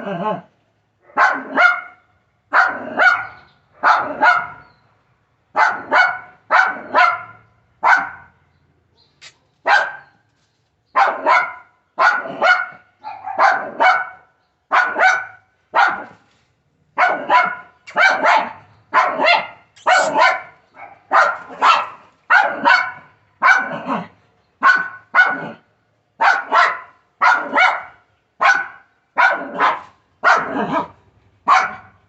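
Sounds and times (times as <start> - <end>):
small dog barking: 1.0 - 4.7, 5.5 - 8.4, 9.2 - 10.2, 10.9 - 16.2, 17.0 - 32.0.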